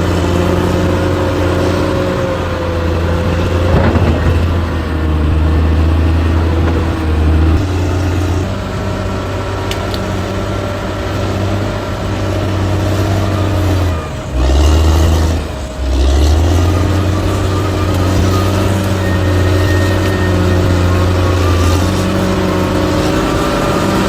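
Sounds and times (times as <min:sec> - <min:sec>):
diesel engine of earthmoving machine: 0:00.0 - 0:24.0.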